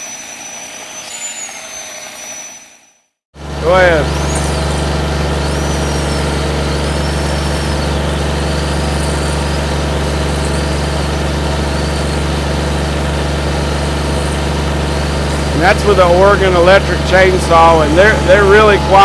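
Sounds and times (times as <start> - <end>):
chainsaw whining: 0.0 - 19.0
tractor engine droning: 3.4 - 19.0.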